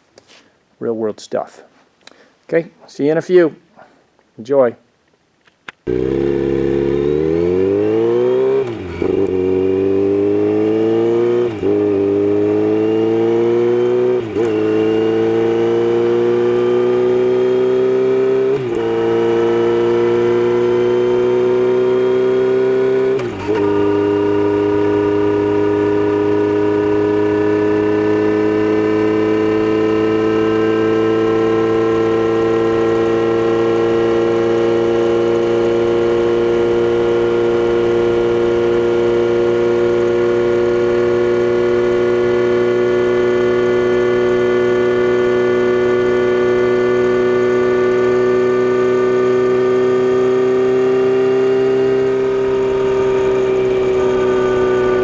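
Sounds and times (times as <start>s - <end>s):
motorcycle engine cruising: 5.8s - 55.0s.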